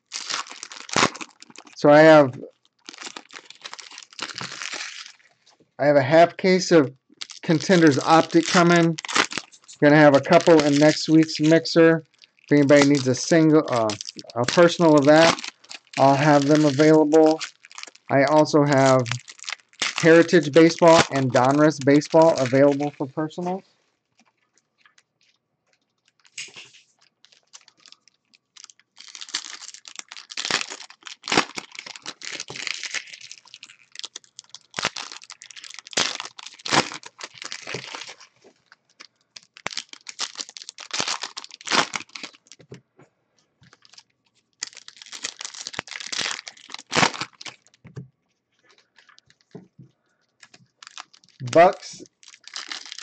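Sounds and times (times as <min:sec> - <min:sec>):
foil wrappers crinkling and tearing: 0:00.0 - 0:05.6, 0:06.6 - 0:25.4, 0:26.0 - 0:42.6, 0:43.6 - 0:48.0, 0:48.6 - 0:49.6, 0:50.4 - 0:53.0.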